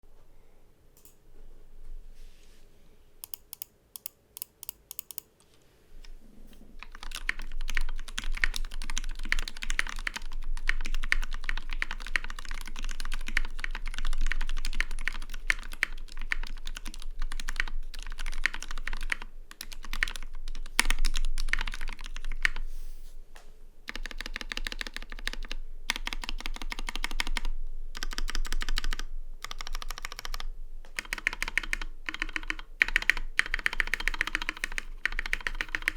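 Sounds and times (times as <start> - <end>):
mechanical keyboard typing: 3.2 - 5.4, 6.8 - 22.6, 23.9 - 35.9.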